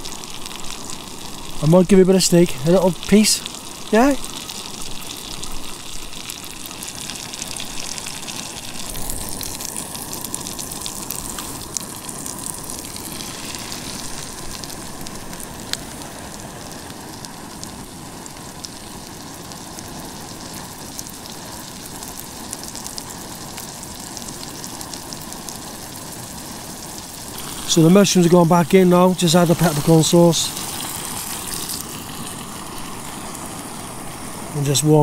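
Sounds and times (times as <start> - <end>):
steak sizzling in a frying pan: 0.0 - 35.0.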